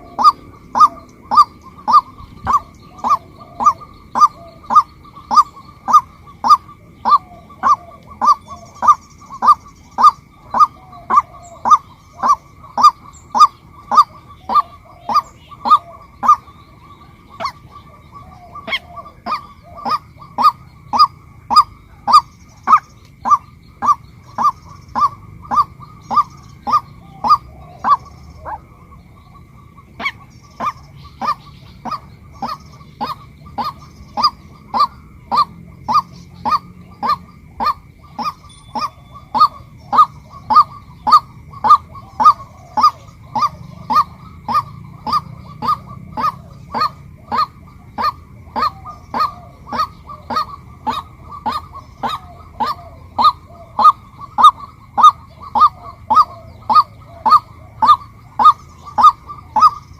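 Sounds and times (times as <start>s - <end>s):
waterhen calling: 0.0s - 59.9s.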